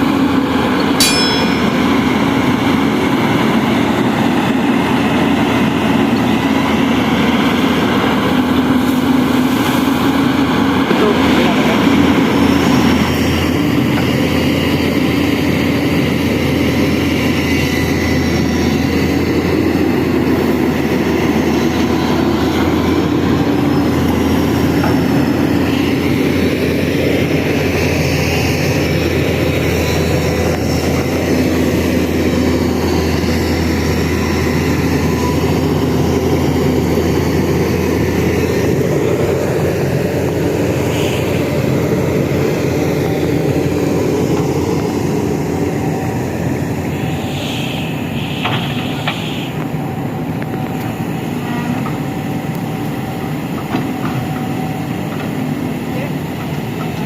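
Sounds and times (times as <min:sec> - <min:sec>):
excavator engine droning: 0:00.0 - 0:57.0.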